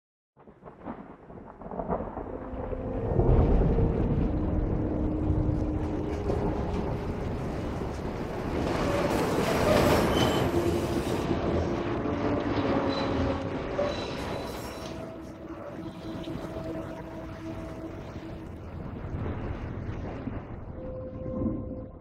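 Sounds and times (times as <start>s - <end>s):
dense rumbling wash: 0.6s - 22.0s.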